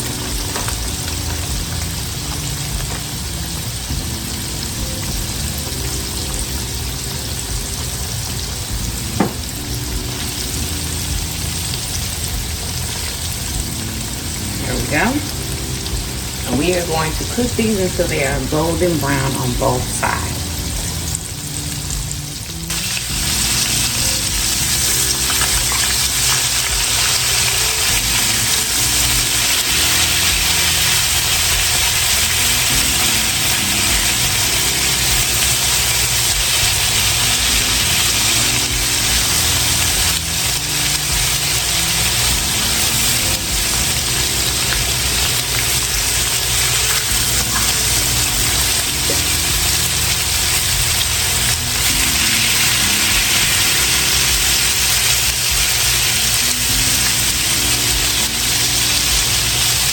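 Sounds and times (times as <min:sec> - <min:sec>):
chicken frying in hot oil: 0:00.0 - 0:59.9.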